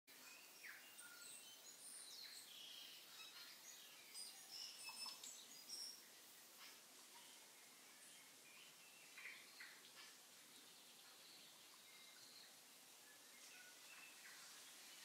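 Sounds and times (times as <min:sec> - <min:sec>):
faint birds chirping: 0:00.1 - 0:15.0
light hiss: 0:00.2 - 0:15.0.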